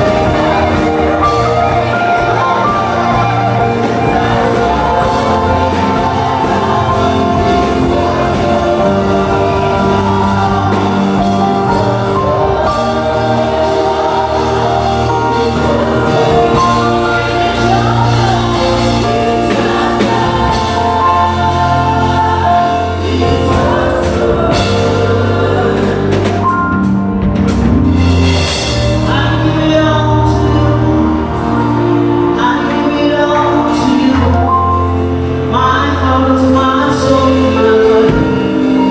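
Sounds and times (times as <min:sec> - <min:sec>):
group of voices singing: 0:00.0 - 0:27.1, 0:28.2 - 0:38.9
band with bass line: 0:00.0 - 0:38.9.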